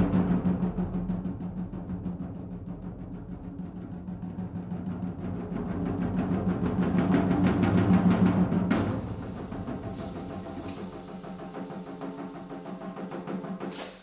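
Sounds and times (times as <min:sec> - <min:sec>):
rapid drum roll: 0:00.0 - 0:14.0.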